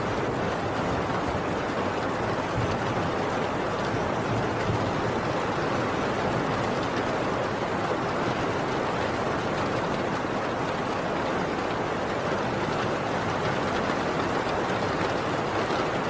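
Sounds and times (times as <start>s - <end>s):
heavy rain on a tin roof: 0.0s - 16.0s.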